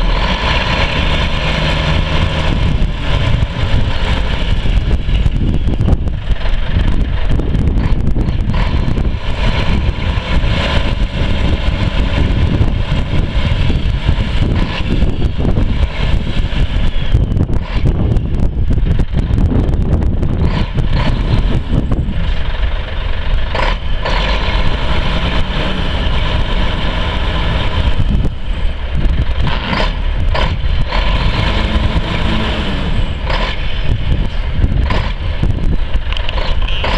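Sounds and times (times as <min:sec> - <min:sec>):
truck diesel engine rumbling: 0:00.0 - 0:36.9.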